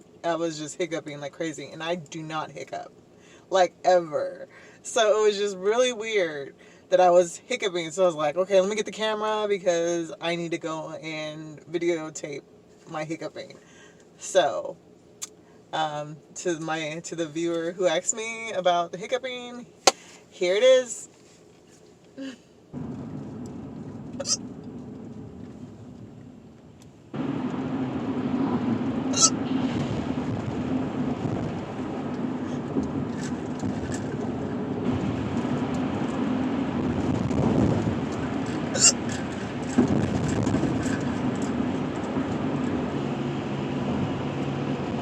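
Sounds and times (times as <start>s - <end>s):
car interior road and engine noise: 0.0s - 45.0s.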